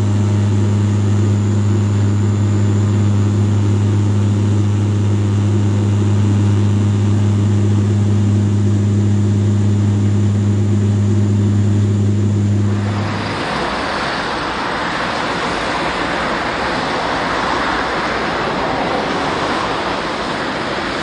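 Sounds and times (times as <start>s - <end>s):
propeller airliner cabin drone: 0.0s - 21.0s
steady rushing noise: 1.4s - 21.0s.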